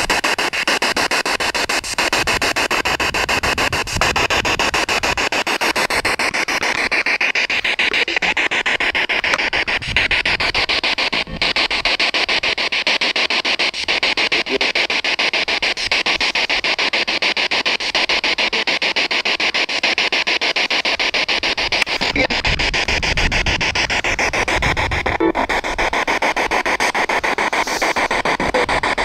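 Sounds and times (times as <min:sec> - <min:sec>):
stuttering radio static: 0:00.0 - 0:29.0.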